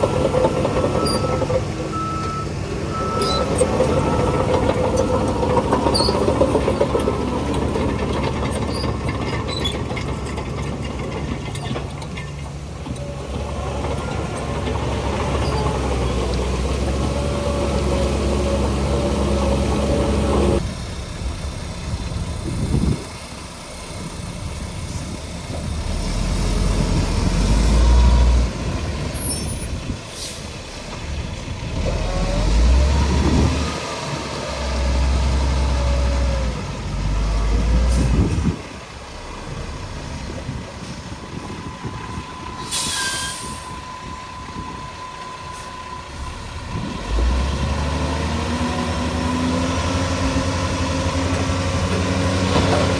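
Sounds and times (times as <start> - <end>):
diesel machinery engines surging: 0.0 - 52.9.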